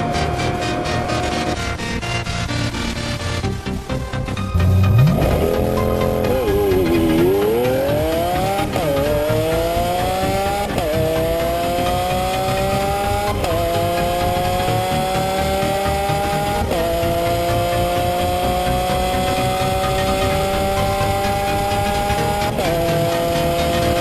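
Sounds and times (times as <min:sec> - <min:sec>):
car engine accelerating hard: 0:03.9 - 0:24.0.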